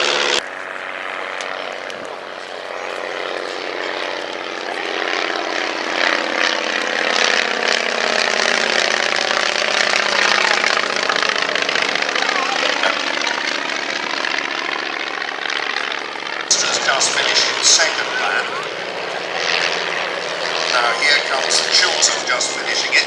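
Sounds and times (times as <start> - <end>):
propeller aircraft flying past: 0.0 - 23.0.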